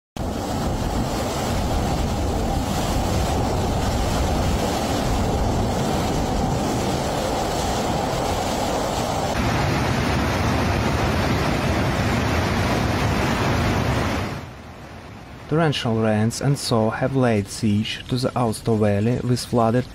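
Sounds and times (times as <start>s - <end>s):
flood torrent rushing: 0.2s - 19.9s
landslide rumbling roar: 0.2s - 19.9s.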